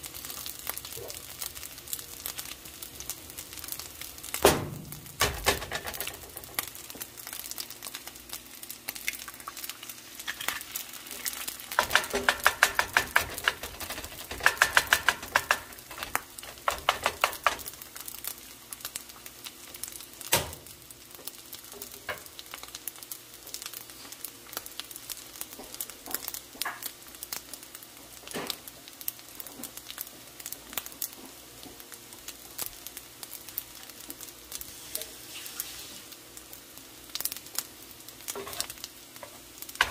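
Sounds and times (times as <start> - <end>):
egg sizzling in oil: 0.0 - 39.9.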